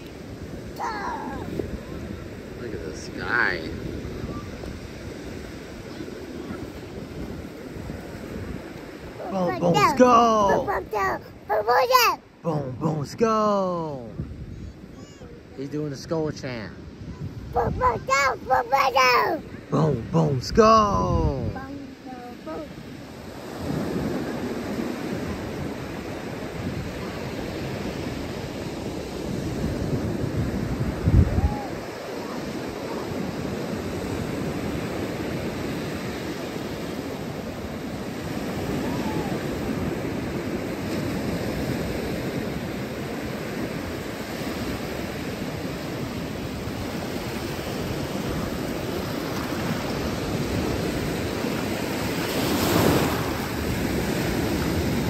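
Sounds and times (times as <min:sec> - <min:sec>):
wind on microphone: 0:00.0 - 0:11.7, 0:13.9 - 0:15.6, 0:16.5 - 0:55.0
ocean surf washing onto beach: 0:00.0 - 0:55.0.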